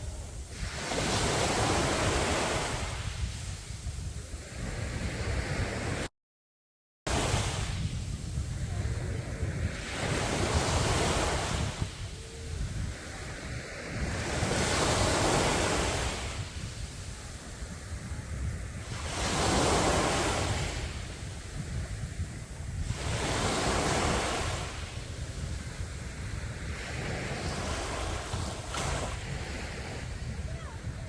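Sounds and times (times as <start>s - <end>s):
sea waves breaking on a beach: 0.0s - 6.1s, 7.1s - 31.0s
wind rumble on the microphone: 0.0s - 6.1s, 7.1s - 31.0s.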